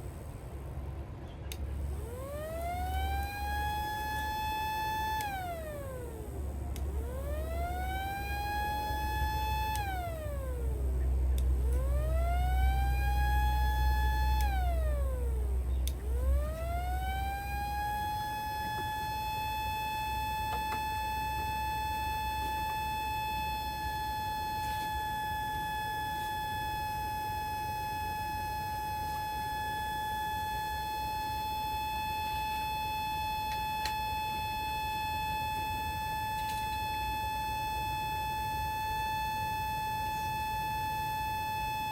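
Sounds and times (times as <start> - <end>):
small tornado siren wailing: 1.8 - 41.9.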